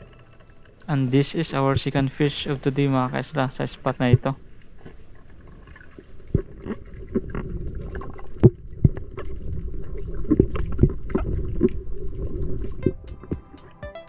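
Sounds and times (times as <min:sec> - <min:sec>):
muffled underwater rush: 0:00.0 - 0:13.6.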